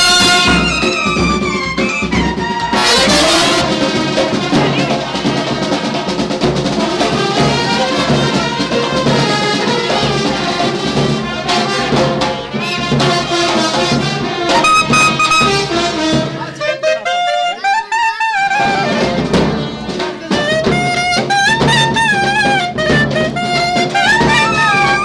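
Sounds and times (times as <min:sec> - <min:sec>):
brass playing melody: 0:00.0 - 0:05.7, 0:06.8 - 0:19.6, 0:20.3 - 0:25.0
steady drum beat: 0:00.0 - 0:25.0.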